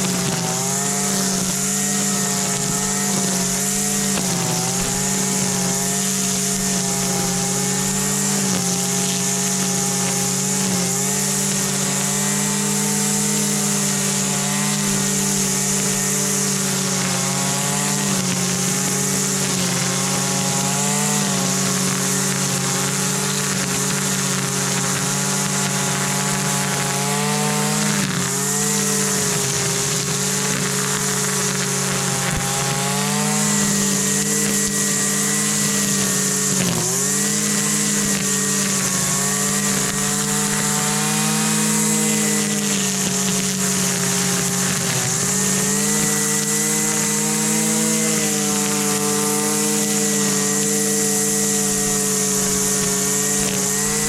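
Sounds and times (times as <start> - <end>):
string trimmer engine running: 0.0 - 54.0.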